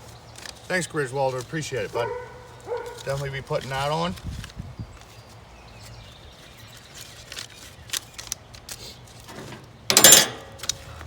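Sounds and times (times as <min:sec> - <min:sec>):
handling clicks and rustles: 0:00.3 - 0:05.1, 0:06.9 - 0:11.0.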